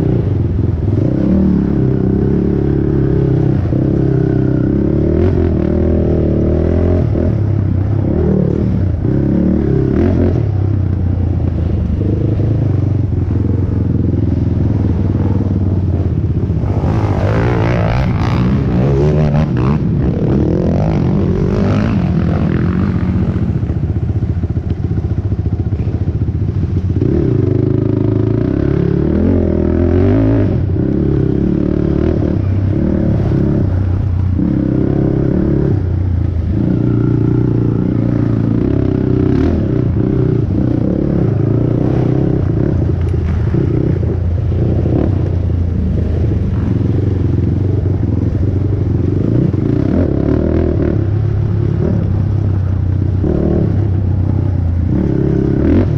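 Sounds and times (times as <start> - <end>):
atv engine revving: 0.0 - 55.9.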